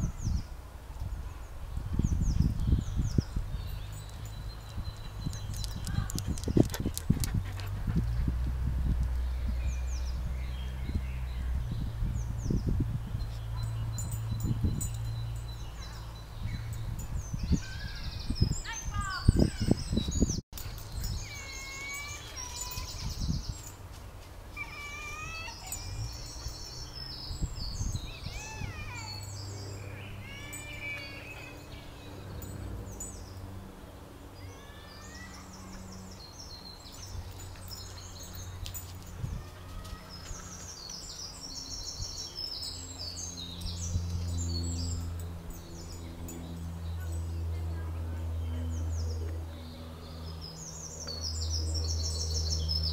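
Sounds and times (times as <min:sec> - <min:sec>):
songbirds singing: 0:00.0 - 0:23.8, 0:24.5 - 0:52.9.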